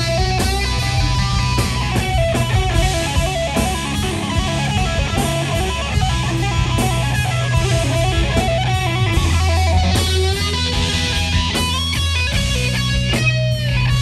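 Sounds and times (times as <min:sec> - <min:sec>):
electric guitar lead: 0:00.0 - 0:14.0
rock band playing: 0:00.0 - 0:14.0.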